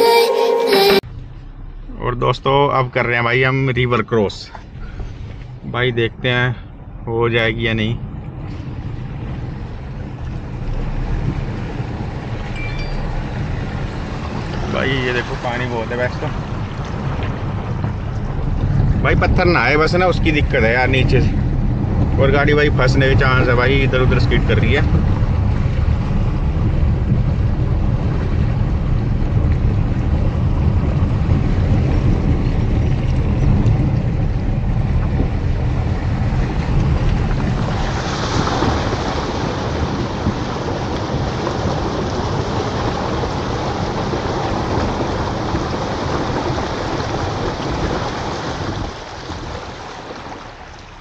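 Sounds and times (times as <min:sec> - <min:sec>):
heavy low rumble: 0:00.8 - 0:51.0
water rushing and splashing: 0:08.3 - 0:51.0.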